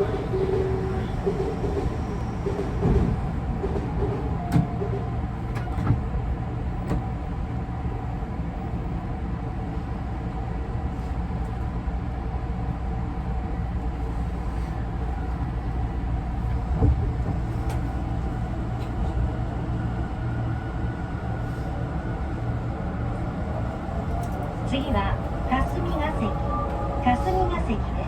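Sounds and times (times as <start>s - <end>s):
train car low rumble: 0.0s - 28.0s.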